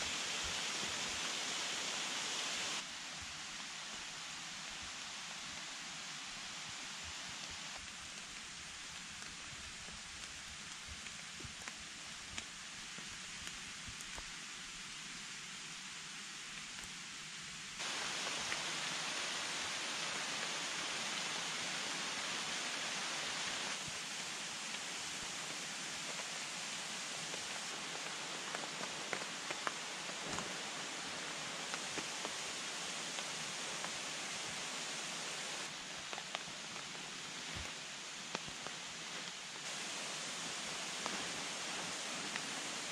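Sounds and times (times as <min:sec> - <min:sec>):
rain falling through forest: 0:00.0 - 0:42.9.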